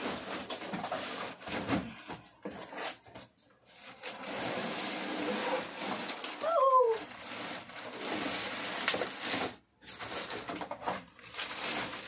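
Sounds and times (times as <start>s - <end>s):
plastic rustling: 0.0s - 12.0s.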